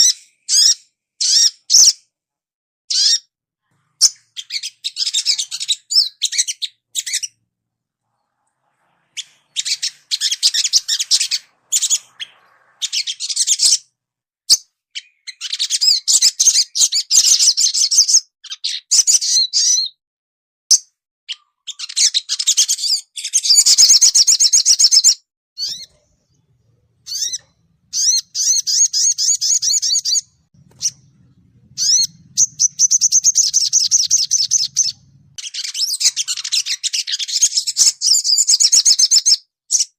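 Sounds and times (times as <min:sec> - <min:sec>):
bird twittering trills: 0:02.9 - 0:07.4, 0:08.0 - 0:14.0, 0:15.0 - 0:19.9, 0:21.3 - 0:39.9.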